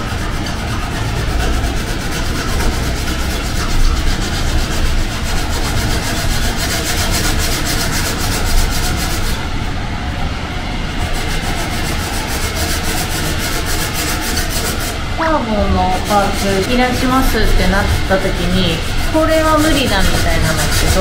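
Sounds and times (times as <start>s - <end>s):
sanding sponge rubbing strokes: 0.0s - 9.4s, 11.0s - 21.0s
steady low rumble: 0.0s - 21.0s.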